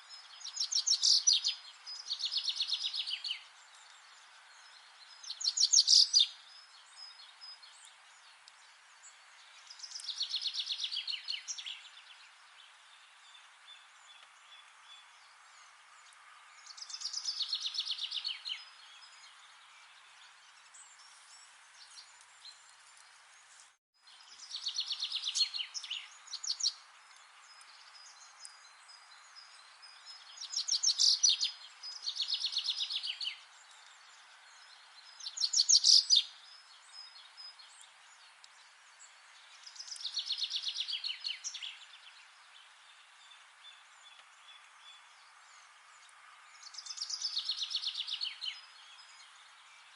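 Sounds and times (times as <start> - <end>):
forest ambience hiss: 0.0 - 49.9.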